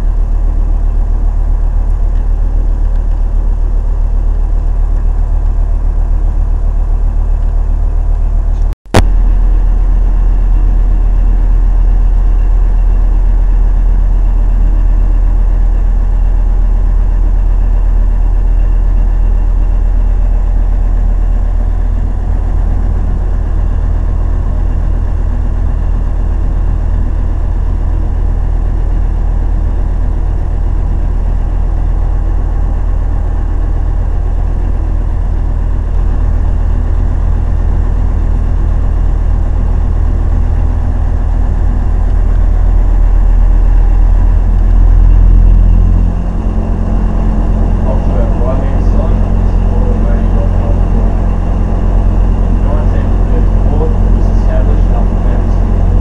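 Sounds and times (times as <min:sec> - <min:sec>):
boat engine low drone: 0:00.0 - 0:56.0.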